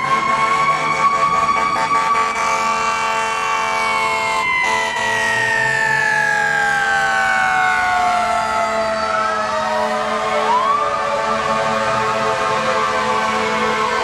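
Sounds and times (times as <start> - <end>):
fire truck siren wailing: 0.0 - 14.0.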